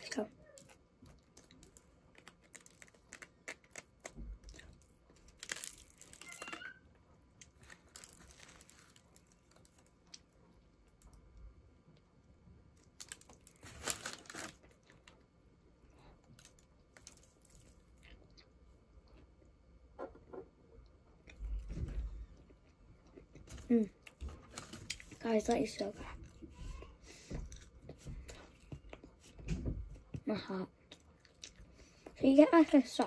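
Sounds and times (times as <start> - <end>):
crinkly crunching and chewing: 0.1 - 19.6, 22.3 - 29.4, 30.8 - 33.0.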